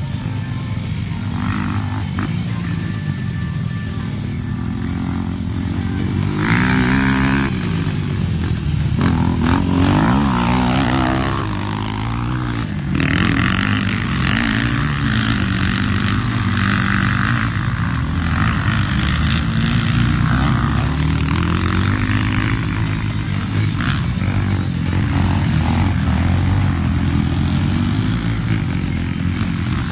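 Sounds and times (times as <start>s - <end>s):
motorbike engine revving: 0.0s - 29.9s.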